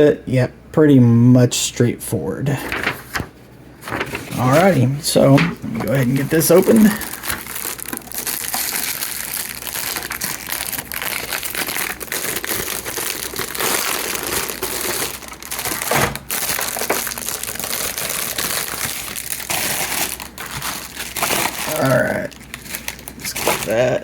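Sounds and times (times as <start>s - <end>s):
packaging wrap crinkling: 2.6s - 24.0s.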